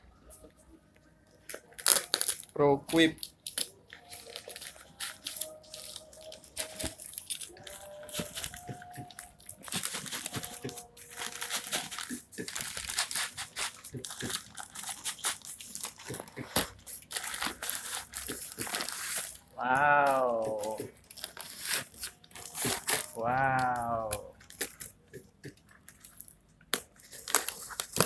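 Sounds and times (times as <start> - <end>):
packaging crinkling and rustling: 1.4 - 28.0.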